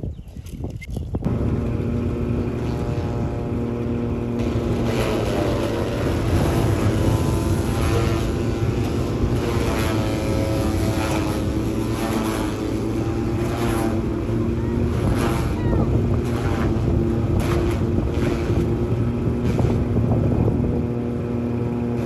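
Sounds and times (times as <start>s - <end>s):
small petrol engine running: 1.3s - 22.0s.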